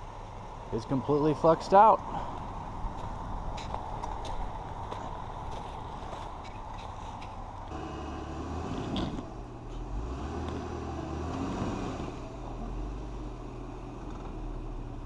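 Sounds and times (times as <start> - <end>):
car engine idling: 0.0 - 11.4, 12.0 - 15.0.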